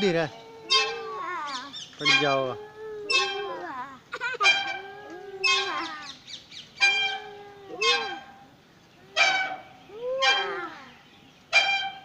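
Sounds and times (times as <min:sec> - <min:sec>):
metal swing squeaking: 0:00.0 - 0:12.0.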